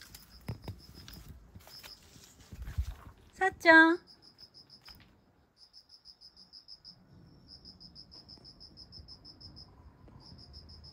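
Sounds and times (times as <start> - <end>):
faint insect chirping: 0.0 - 2.3, 3.6 - 10.9.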